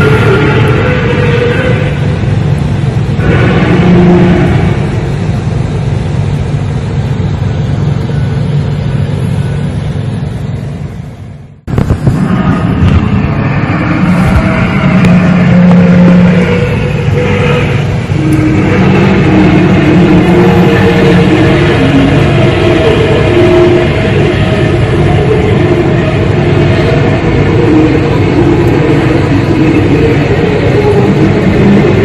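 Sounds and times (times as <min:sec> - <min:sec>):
low droning rumble: 0:00.0 - 0:32.0
steady humming tones: 0:00.0 - 0:32.0.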